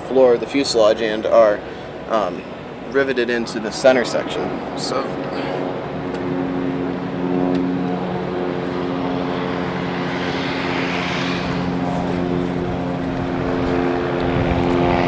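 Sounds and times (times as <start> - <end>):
propeller airplane engine drone: 0.0 - 15.0.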